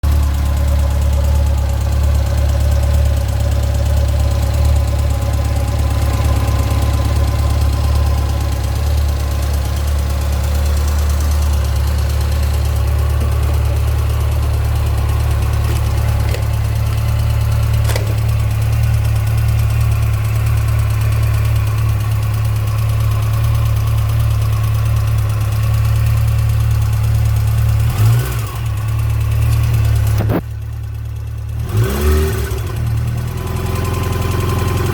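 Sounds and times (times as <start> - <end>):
motorcycle engine idling: 0.0 - 31.6.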